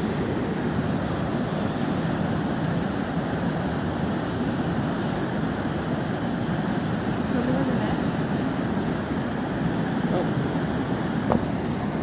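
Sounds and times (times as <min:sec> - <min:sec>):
river water rushing over rapids: 0:00.0 - 0:12.0.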